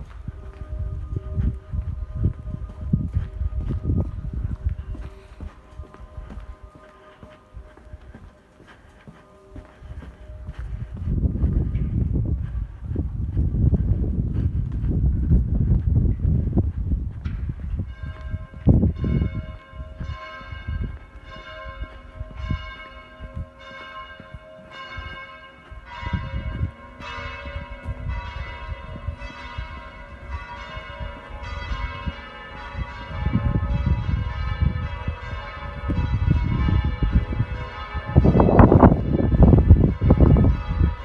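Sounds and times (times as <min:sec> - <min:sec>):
church bells ringing: 0:00.0 - 0:12.7, 0:17.3 - 0:41.0
low rumbling microphone noise: 0:00.0 - 0:41.0.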